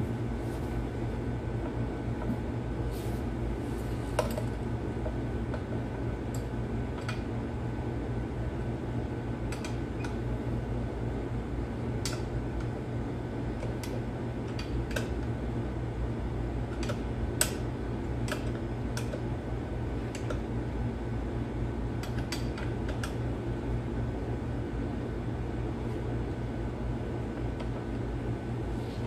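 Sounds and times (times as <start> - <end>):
fan-like hum: 0.0 - 29.0.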